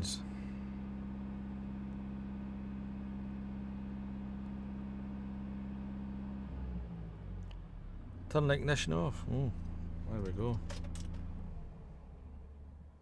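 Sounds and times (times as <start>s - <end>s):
diesel engine at raised revs: 0.0s - 13.0s.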